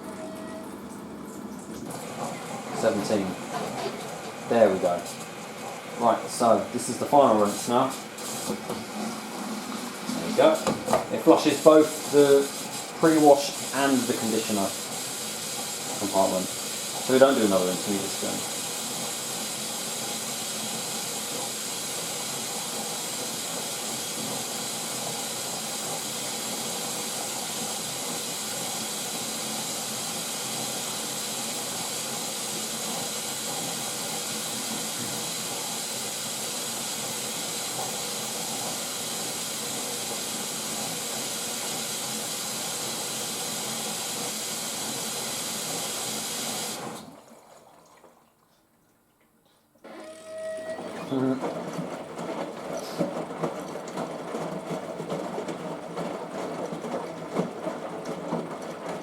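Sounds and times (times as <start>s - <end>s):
water rushing into washing machine: 0.0s - 59.0s.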